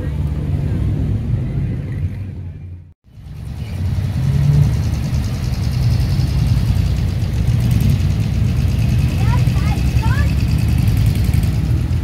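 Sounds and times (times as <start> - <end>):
car engines rumbling at low revs: 0.0 - 12.0.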